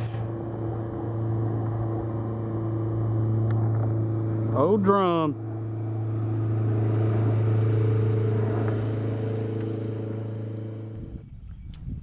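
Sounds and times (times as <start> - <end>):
constant higher tones: 0.0 - 11.2
low motor hum: 0.0 - 11.6.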